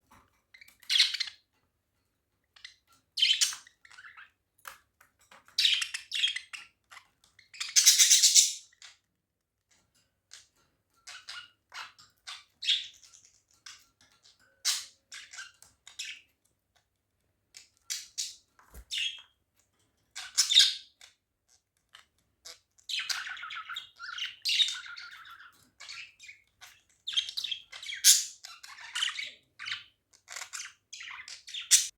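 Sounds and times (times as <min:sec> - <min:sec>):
budgerigars chirping and chattering: 0:00.6 - 0:01.4, 0:02.6 - 0:09.0, 0:10.3 - 0:16.3, 0:17.5 - 0:19.4, 0:20.1 - 0:31.9.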